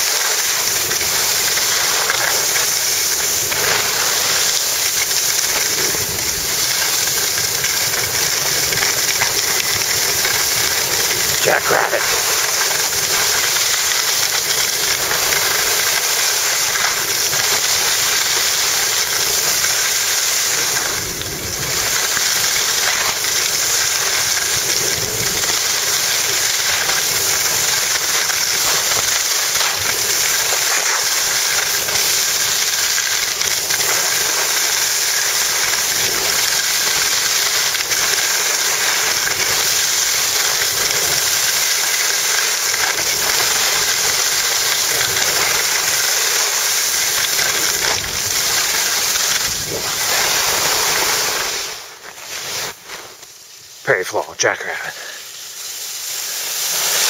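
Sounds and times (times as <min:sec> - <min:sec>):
skis scraping on packed snow: 0:00.0 - 0:57.0.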